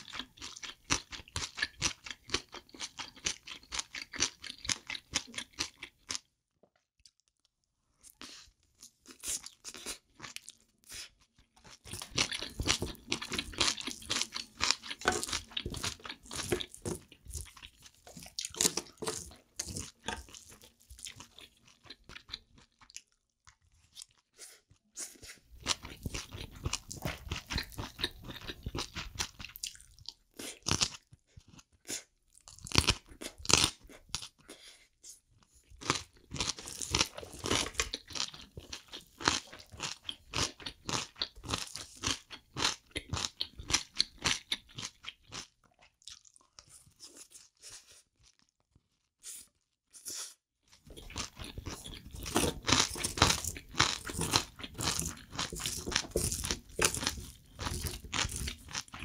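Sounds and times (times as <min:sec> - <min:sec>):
crunchy chewing: 0:08.0 - 0:34.5, 0:35.4 - 0:59.0.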